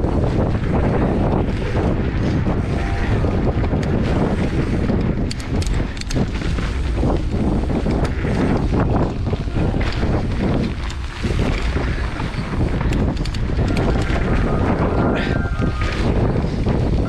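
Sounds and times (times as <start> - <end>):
bike clicks and rattles: 0.0 - 17.0
wind buffeting microphone: 0.0 - 17.0
tyres rolling over dirt: 0.2 - 17.0.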